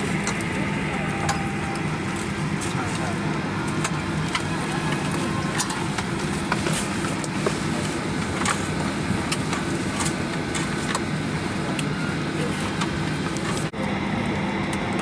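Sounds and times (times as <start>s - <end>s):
cabin air conditioning hum: 0.0s - 15.0s.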